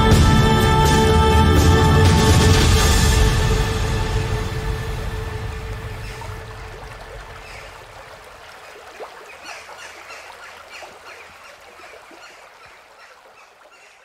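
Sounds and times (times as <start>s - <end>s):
stream running over stones: 2.1s - 14.0s.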